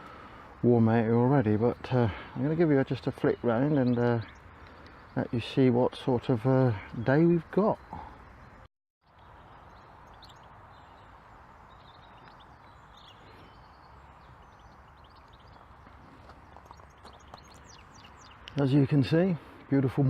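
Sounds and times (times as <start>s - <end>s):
birds chirping: 0.0s - 20.0s
outdoor background hiss: 0.0s - 20.0s.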